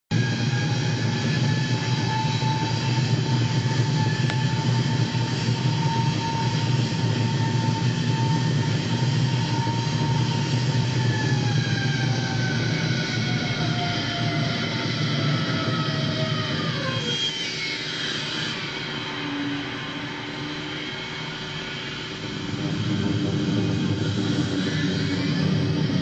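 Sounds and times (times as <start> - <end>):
high engine whine: 0.1 - 26.0.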